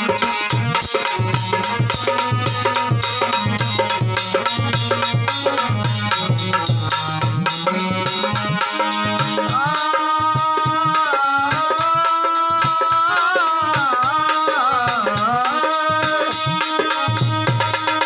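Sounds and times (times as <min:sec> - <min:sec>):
devotional melody with pitch bends: 0:00.0 - 0:18.0
hand drum rhythm: 0:00.0 - 0:18.0.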